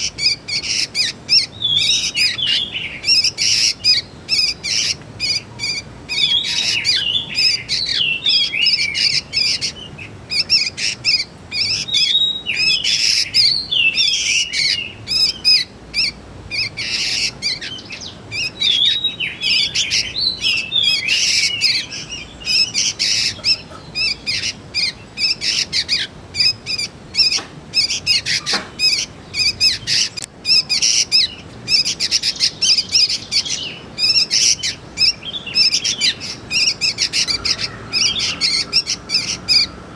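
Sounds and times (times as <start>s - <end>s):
young birds chirping: 0.0s - 39.9s.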